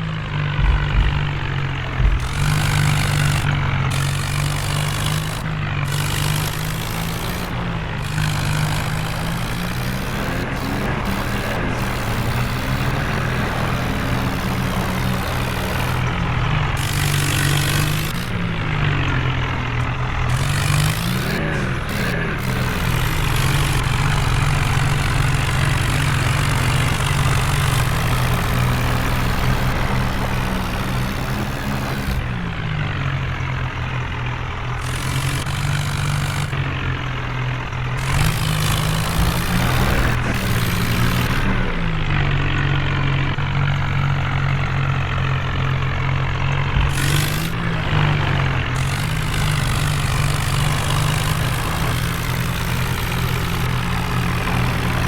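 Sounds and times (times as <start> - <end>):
diesel engine revving under load: 0.0 - 55.0.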